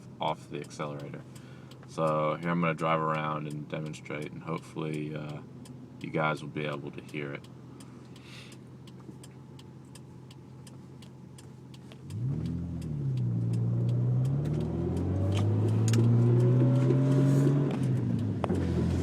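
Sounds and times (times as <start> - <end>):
car engine idling and accelerating: 0.0 - 19.0
light ticking: 0.3 - 16.6.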